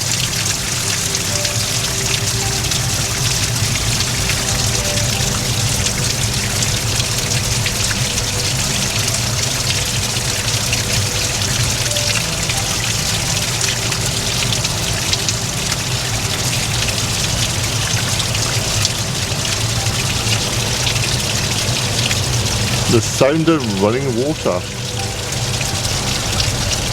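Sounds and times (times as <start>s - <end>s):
stream splashing and gurgling: 0.0s - 26.9s.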